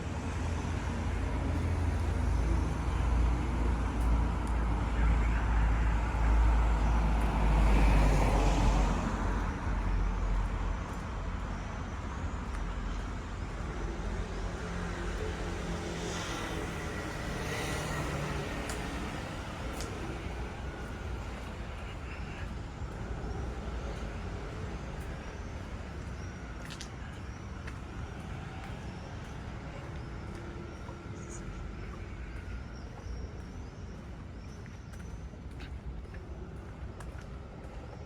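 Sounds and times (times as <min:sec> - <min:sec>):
city street traffic: 0:00.0 - 0:38.0.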